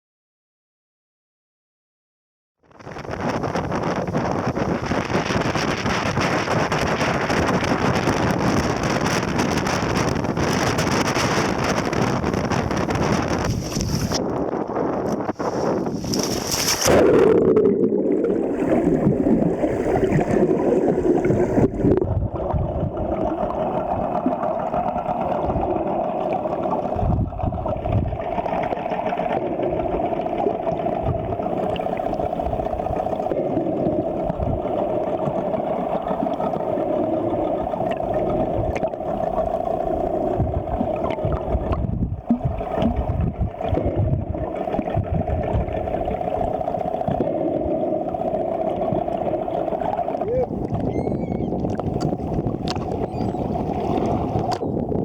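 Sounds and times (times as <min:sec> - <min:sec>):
wind and water rushing: 0:02.8 - 0:55.0.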